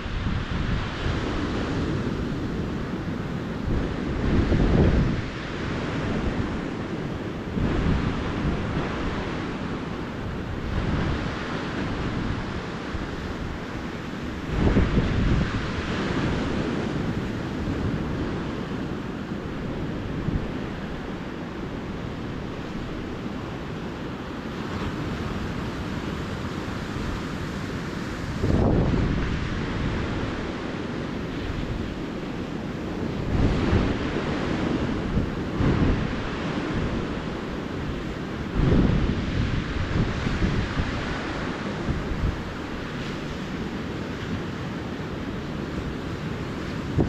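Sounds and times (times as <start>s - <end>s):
ocean waves breaking on beach: 0.0s - 47.0s
wind rumble on microphone: 0.0s - 47.0s.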